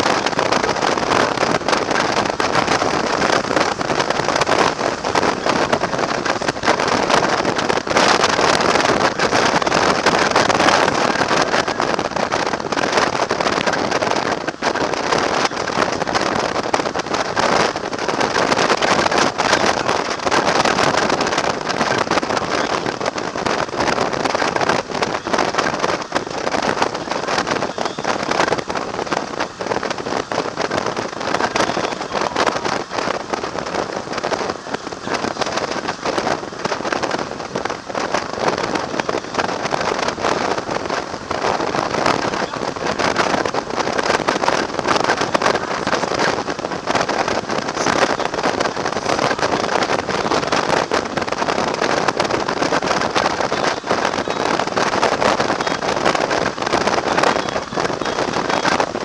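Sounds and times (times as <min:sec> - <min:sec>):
road noise: 0:00.0 - 0:59.0
wind rushing over microphone: 0:00.0 - 0:59.0.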